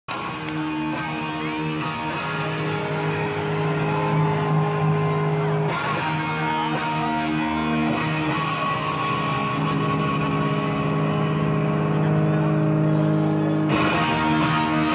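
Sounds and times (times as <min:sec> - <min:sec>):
distorted electric guitar chords: 0:00.1 - 0:14.9.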